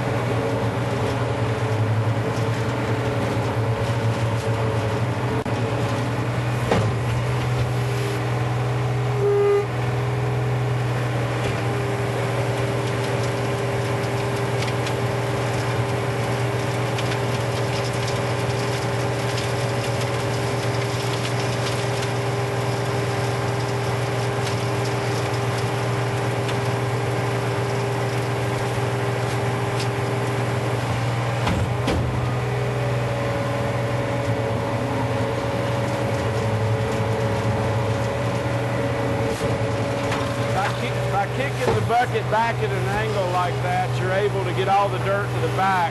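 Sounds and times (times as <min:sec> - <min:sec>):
loader engine running: 0:00.0 - 0:45.9
gravel clicking and rattling: 0:00.1 - 0:07.8, 0:11.3 - 0:45.9.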